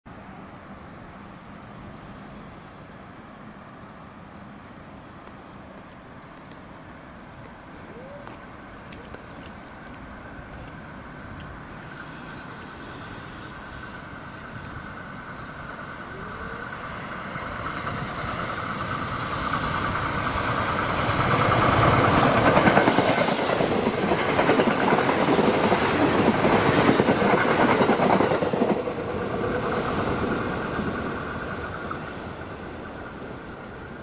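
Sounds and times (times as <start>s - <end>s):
train passing at speed: 0.1s - 34.0s.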